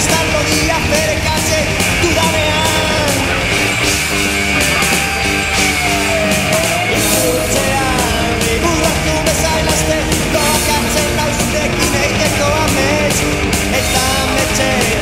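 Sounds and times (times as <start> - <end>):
loud rock music: 0.0 - 15.0
person singing: 0.0 - 15.0
steady drum beat: 0.0 - 15.0.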